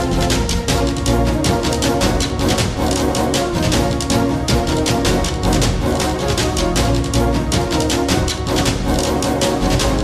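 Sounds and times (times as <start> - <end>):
music with fast percussive beat: 0.0 - 10.0.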